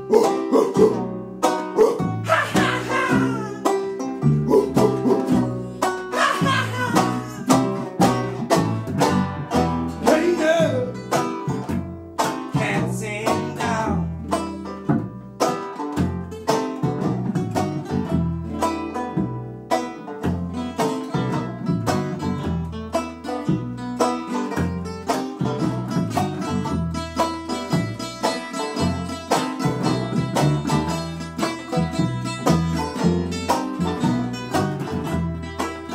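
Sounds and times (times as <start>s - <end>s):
acoustic string band: 0.0s - 35.9s
rapid banjo picking: 0.0s - 35.9s.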